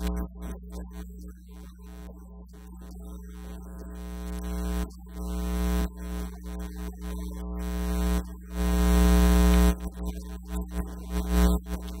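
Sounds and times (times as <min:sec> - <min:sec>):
mains hum: 0:00.0 - 0:12.0.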